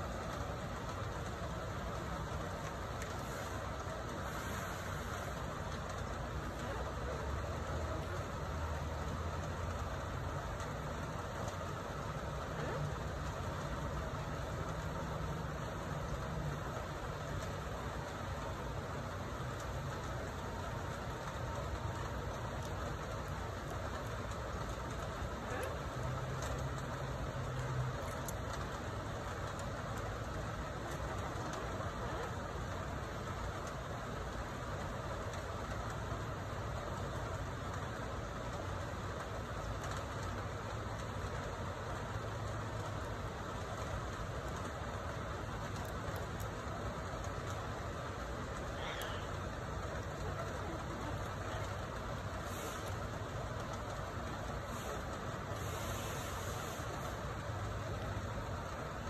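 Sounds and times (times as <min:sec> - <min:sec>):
constant hiss: 0:00.0 - 0:59.0
low mechanical hum: 0:00.0 - 0:59.0.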